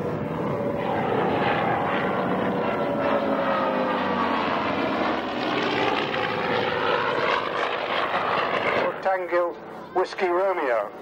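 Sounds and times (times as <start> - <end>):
propeller aircraft flying past: 0.0 - 11.0.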